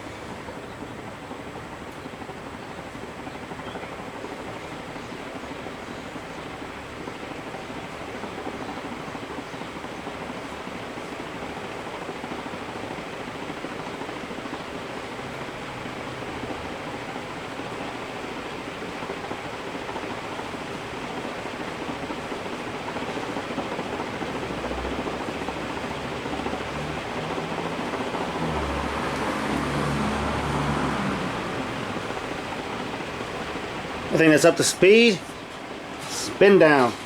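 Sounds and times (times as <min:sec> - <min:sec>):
ceiling fan air rush: 0:00.0 - 0:37.0.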